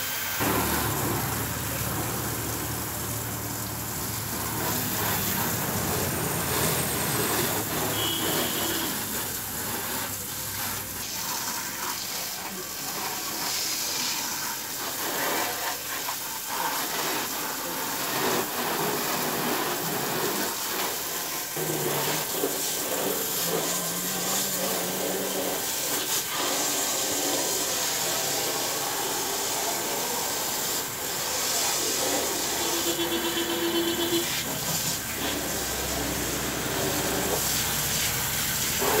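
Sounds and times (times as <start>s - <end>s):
hose spray hissing: 0.0s - 39.0s
water spattering on metal: 0.0s - 39.0s.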